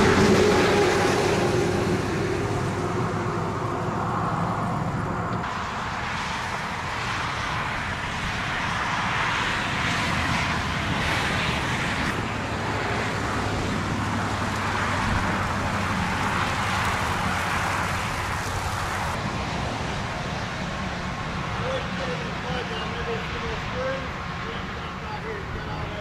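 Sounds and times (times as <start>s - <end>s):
outdoor rushing noise: 0.0s - 26.0s.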